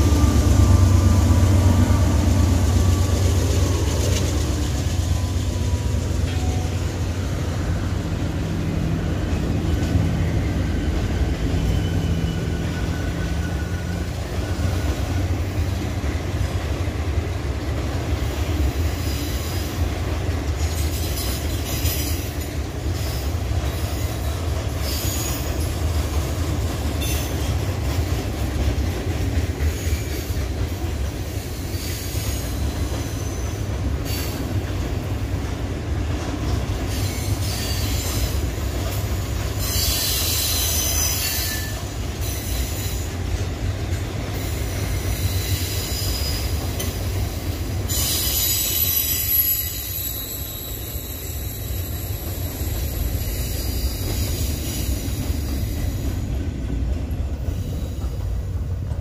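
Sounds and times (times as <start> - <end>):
train wheels squealing: 0.0 - 8.3, 8.9 - 15.9, 18.6 - 19.9, 20.6 - 35.4, 36.4 - 56.5, 57.1 - 58.6
train rolling with low rumble: 0.0 - 59.0.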